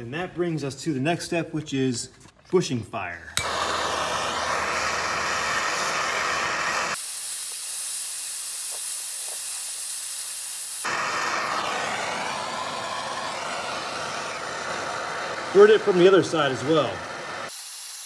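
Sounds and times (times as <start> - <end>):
gas torch flame hissing: 3.4 - 18.0.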